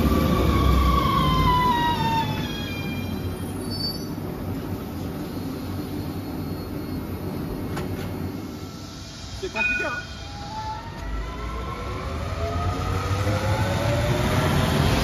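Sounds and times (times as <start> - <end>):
tram electric drive whine: 0.0 - 15.0
tram low rumble: 0.0 - 15.0.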